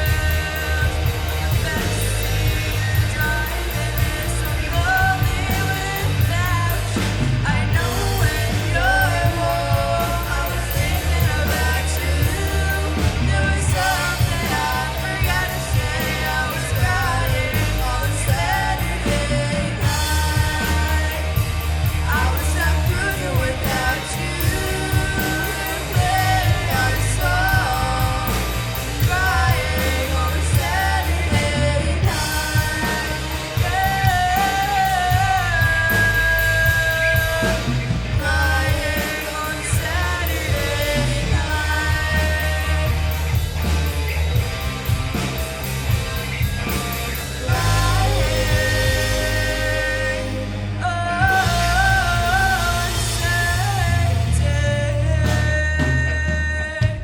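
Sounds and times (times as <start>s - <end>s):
lead singer: 0.0s - 57.0s
live rock band playing: 0.0s - 57.0s.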